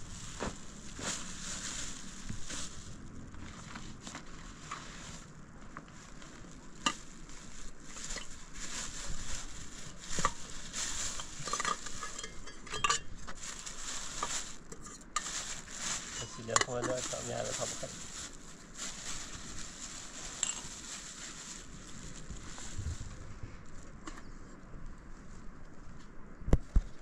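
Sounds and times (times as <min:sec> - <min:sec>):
footsteps crunching on a path: 0:00.0 - 0:24.0.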